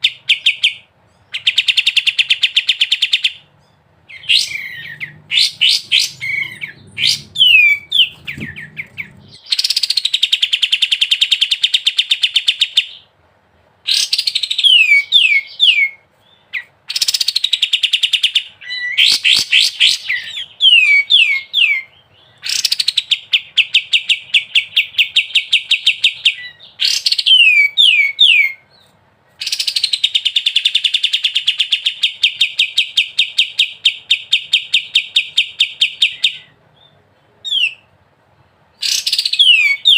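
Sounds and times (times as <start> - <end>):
bird singing whistles and trills: 0.0 - 13.0, 13.9 - 28.8, 29.4 - 37.9, 38.8 - 39.9.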